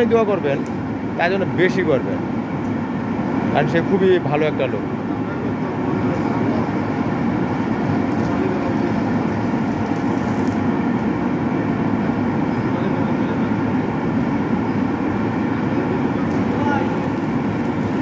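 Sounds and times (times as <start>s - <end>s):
steady machine drone: 0.0s - 18.0s.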